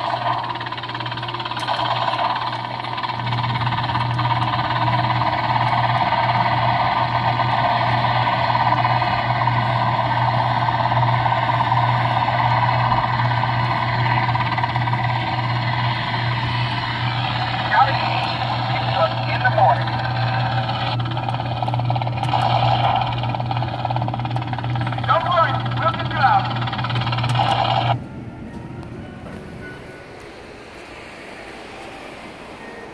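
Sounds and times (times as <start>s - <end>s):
constant low hum: 0.0s - 32.9s
kiddie ride mechanical whirring: 0.0s - 32.9s.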